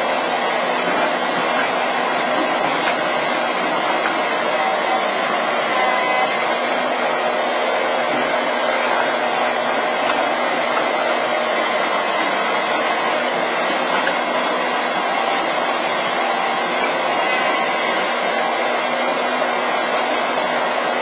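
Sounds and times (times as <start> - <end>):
steady mechanical drone: 0.0 - 21.0.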